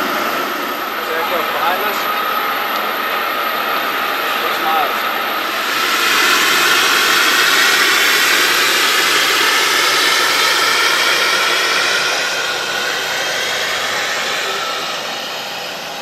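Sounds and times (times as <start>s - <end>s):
jet engine whoosh and whine: 0.0s - 16.0s.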